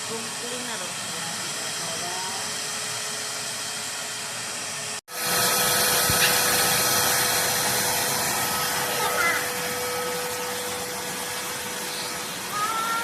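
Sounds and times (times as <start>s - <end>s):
vacuum cleaner motor whine: 0.0s - 13.0s.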